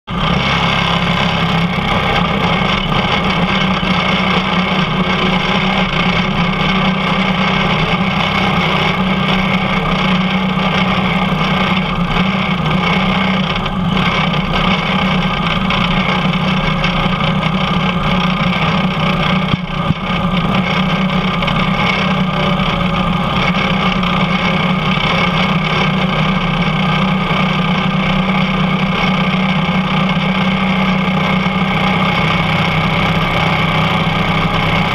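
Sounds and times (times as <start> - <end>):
kart engine running: 0.1 - 34.9.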